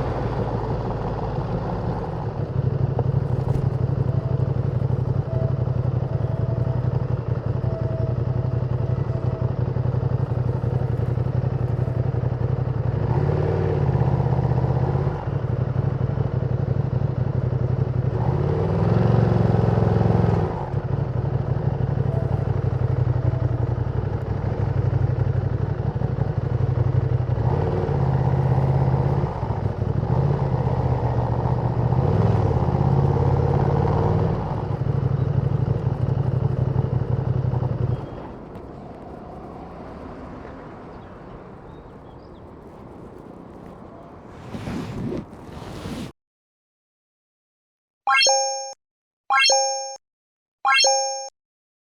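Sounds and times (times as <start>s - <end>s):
motorcycle engine revving: 0.0s - 46.2s.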